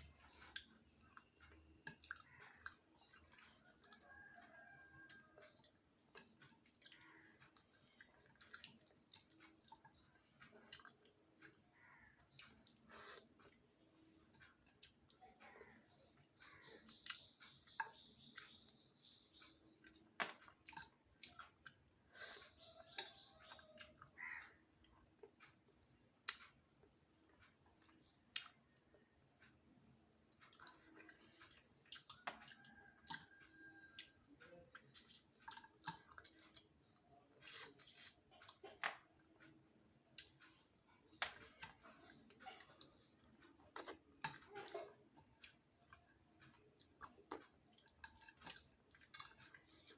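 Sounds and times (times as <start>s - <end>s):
person chewing with wet smacks: 0.0s - 49.9s.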